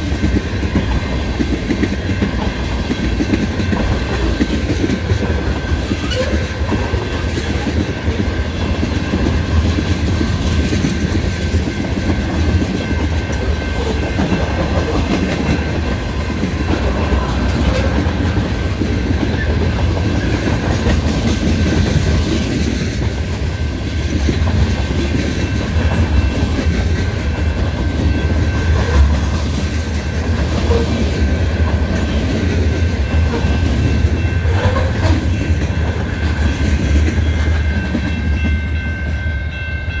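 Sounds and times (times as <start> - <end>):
wheels clacking over rail joints: 0.0 - 39.1
freight train rolling past: 0.0 - 40.0.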